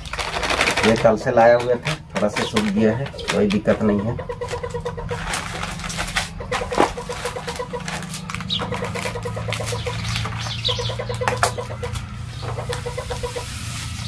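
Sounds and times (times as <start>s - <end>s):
plastic packets rustling: 0.0s - 14.0s
steady low hum: 0.0s - 14.0s
bird chirping: 1.2s - 5.3s, 6.3s - 14.0s.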